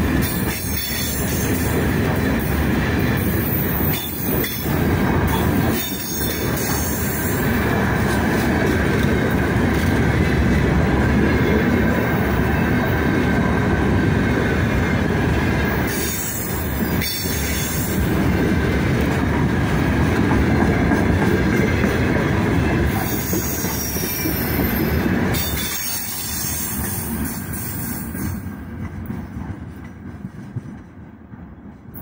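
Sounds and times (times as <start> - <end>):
freight train wheels rumbling on rails: 0.0 - 32.0.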